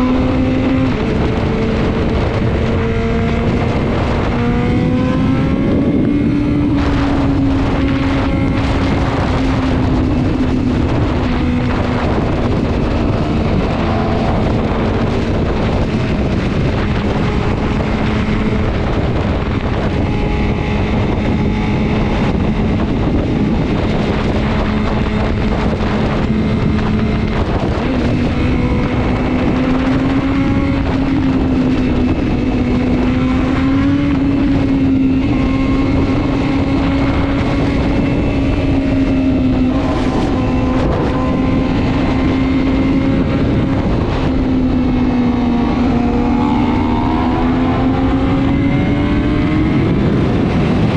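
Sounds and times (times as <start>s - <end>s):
motorcycle engine running: 0.0s - 50.9s
wind noise on microphone: 0.0s - 50.9s.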